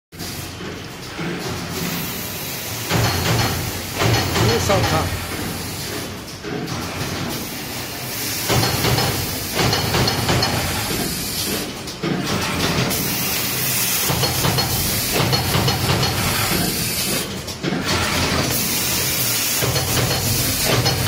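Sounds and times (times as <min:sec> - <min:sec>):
card punching machine running: 0:02.6 - 0:21.0.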